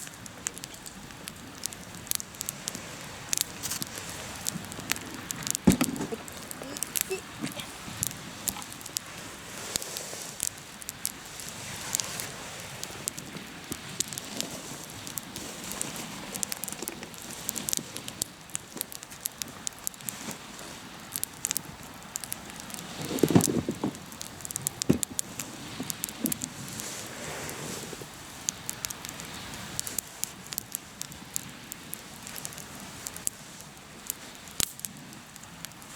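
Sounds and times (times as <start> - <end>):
campfire crackling and popping: 0.0 - 35.9.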